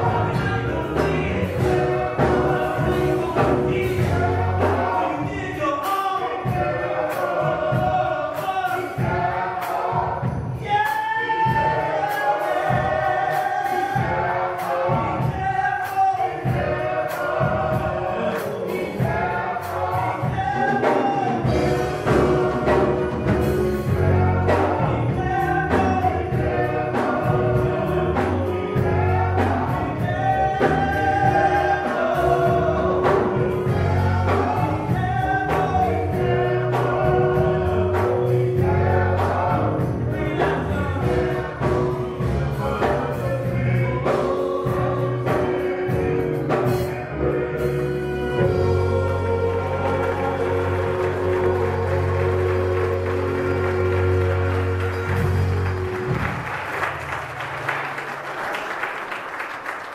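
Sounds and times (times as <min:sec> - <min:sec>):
men singing in harmony: 0:00.0 - 0:56.0
drum kit beat: 0:00.0 - 0:58.0
keyboard: 0:00.0 - 0:58.3.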